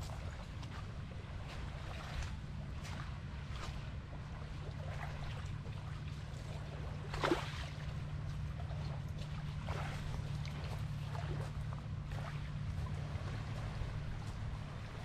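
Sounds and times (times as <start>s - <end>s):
low rumble: 0.0s - 15.0s
water splashing at pebble shore: 0.0s - 15.0s.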